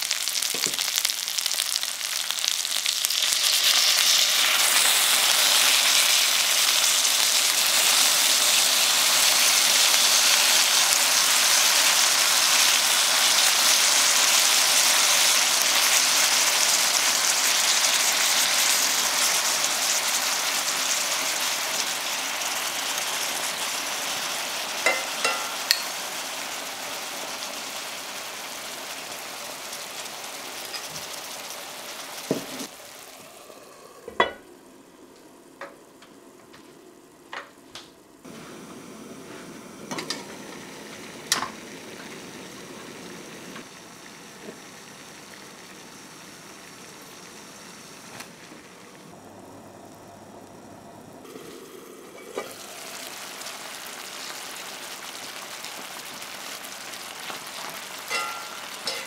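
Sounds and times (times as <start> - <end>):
food sizzling in a skillet: 0.0 - 34.7, 38.2 - 59.0.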